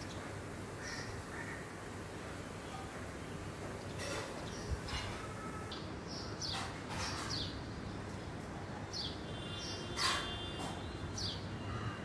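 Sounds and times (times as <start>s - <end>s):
birds chirping in trees: 0.0s - 12.0s.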